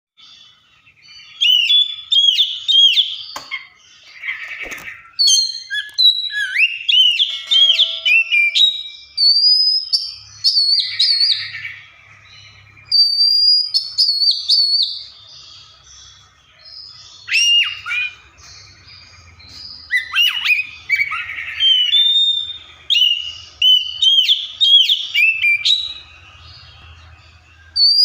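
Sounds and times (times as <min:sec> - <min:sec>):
bird singing whistled song: 0:00.2 - 0:28.0
bird harsh rasping chatter: 0:00.4 - 0:09.2, 0:10.0 - 0:28.0.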